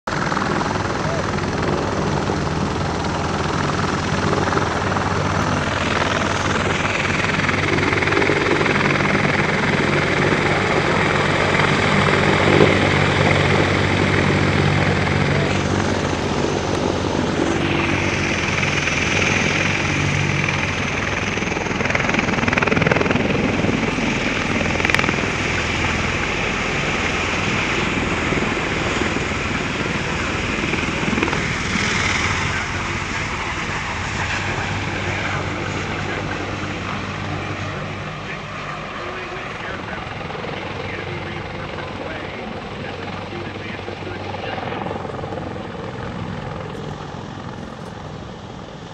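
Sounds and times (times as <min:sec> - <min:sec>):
helicopter rotor noise: 0:00.1 - 0:48.9
high turbine engine whine: 0:00.1 - 0:48.9.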